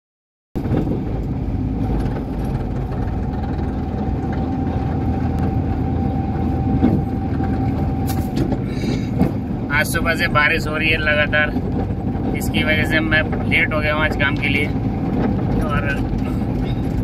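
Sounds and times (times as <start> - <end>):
road noise on wet road: 0.6 - 17.0
vehicle engine running: 0.6 - 17.0
faint constant whine: 0.7 - 17.0.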